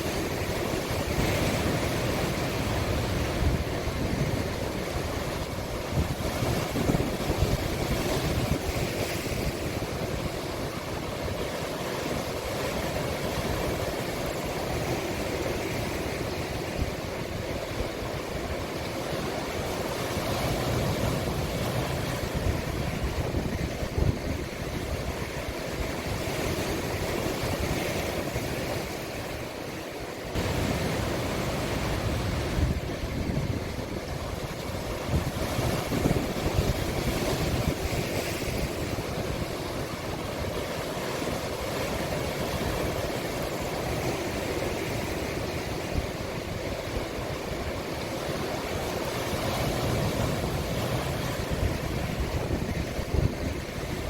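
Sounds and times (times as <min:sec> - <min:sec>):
wind on microphone: 0:00.0 - 0:18.6, 0:19.2 - 0:29.5, 0:30.3 - 0:54.0
sea waves breaking: 0:00.0 - 0:54.0.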